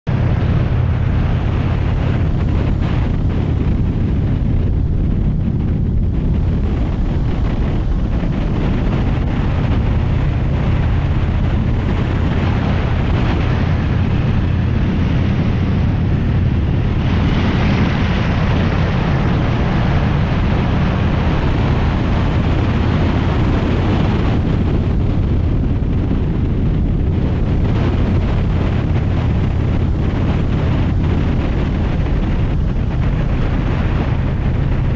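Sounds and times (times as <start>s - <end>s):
wind noise on microphone: 0.0s - 34.9s
motorcycle engine cruising: 0.1s - 34.9s.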